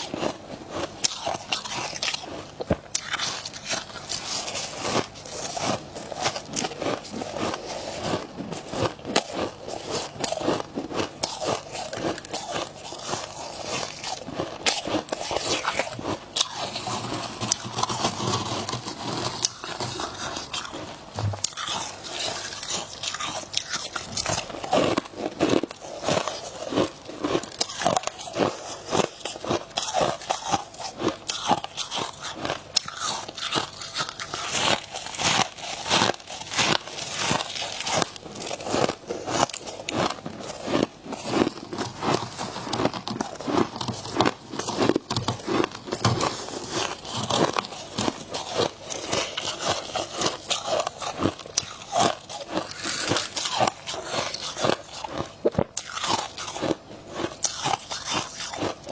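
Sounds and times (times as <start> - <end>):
chewing crunchy frost: 0.0 - 58.9.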